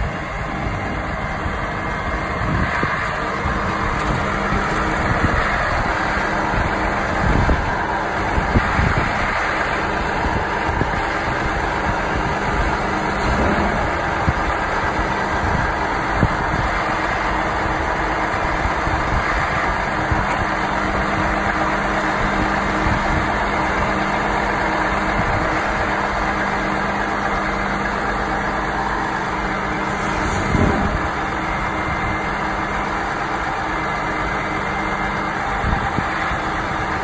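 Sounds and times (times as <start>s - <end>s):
crane grab working: 0.0s - 37.0s
diesel engine running: 0.0s - 37.0s.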